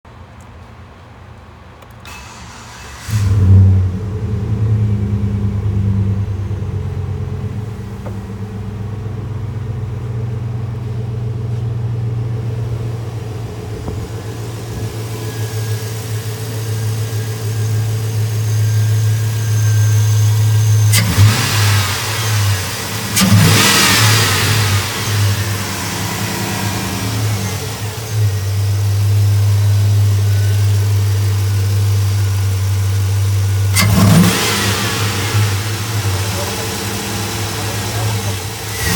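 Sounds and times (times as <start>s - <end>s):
truck engine idling and revving: 0.1s - 38.9s.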